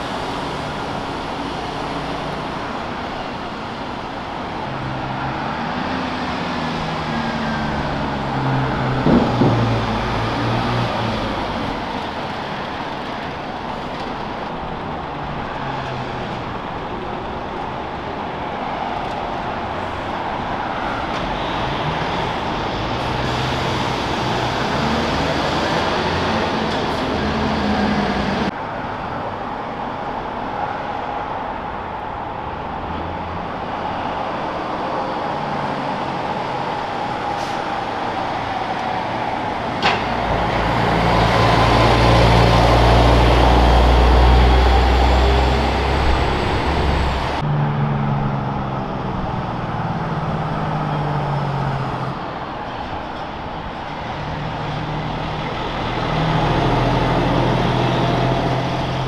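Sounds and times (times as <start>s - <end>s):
truck engines passing: 0.0s - 59.0s.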